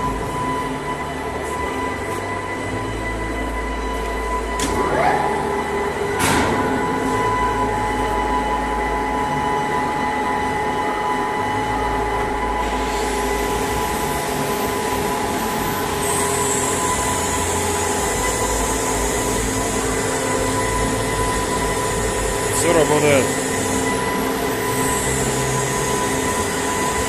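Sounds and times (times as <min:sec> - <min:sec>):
high whine: 0:00.0 - 0:27.0
lathe mechanical hum: 0:00.0 - 0:27.0.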